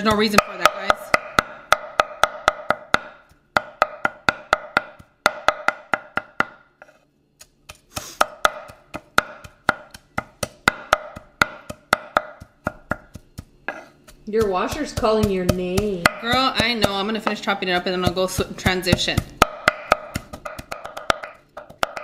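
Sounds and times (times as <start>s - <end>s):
cleaver chopping on wooden board: 0.1s - 6.6s, 7.6s - 22.0s.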